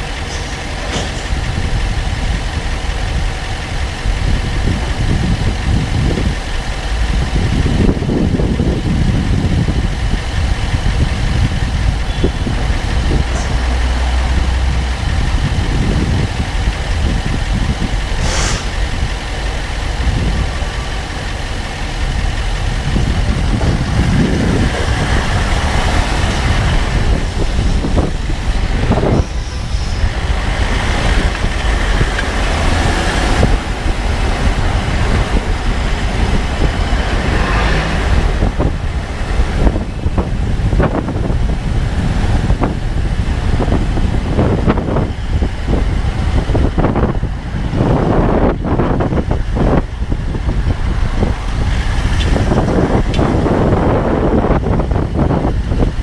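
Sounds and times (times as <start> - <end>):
low vehicle rumble: 0.0 - 56.0.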